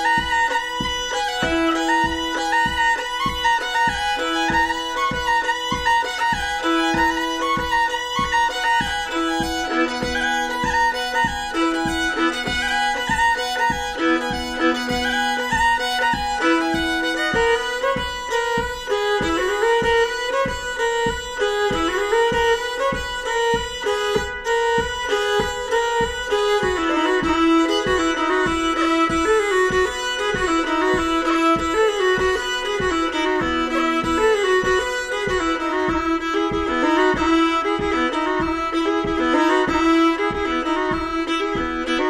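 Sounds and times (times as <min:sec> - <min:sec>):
fiddle music over steady beat: 0:00.0 - 0:42.0.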